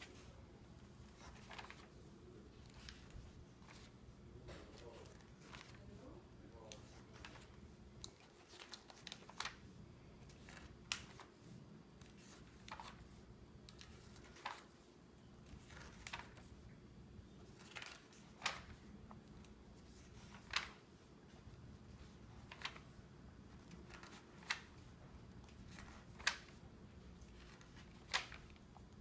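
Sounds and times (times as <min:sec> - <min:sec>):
paper pages turning: 0:00.0 - 0:29.0.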